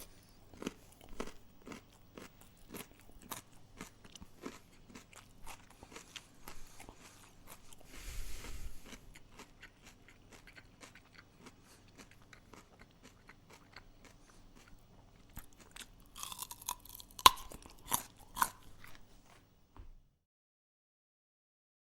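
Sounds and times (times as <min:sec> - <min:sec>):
person chewing crunchy food: 0:00.0 - 0:19.2.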